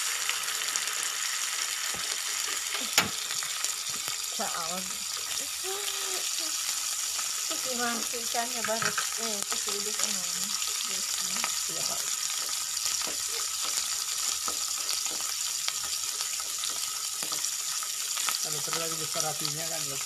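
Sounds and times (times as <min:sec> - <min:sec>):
fish sizzling in a frying pan: 0:00.0 - 0:20.0
oil crackling and popping: 0:00.0 - 0:20.0.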